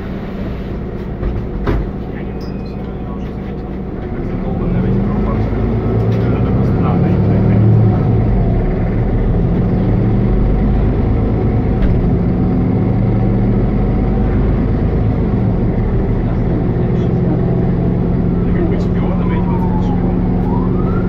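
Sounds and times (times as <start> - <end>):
bus engine hum: 0.0 - 21.0
road noise: 0.0 - 21.0.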